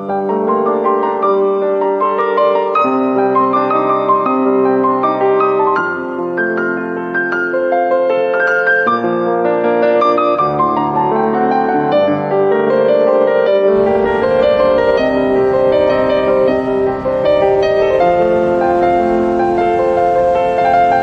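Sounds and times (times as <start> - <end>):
piano music with held notes: 0.0 - 21.0.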